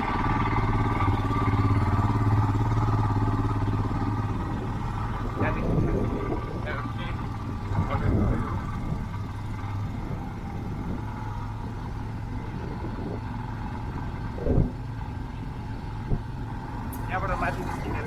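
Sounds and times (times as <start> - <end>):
engine running hum: 0.0 - 18.0.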